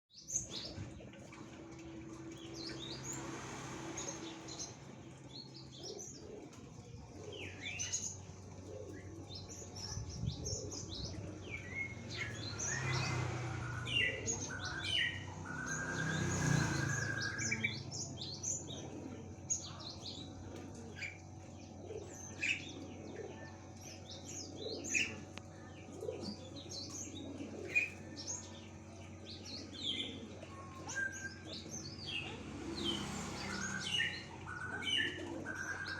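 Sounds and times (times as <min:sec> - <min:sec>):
birds chirping and whistling: 0:04.0 - 0:35.9.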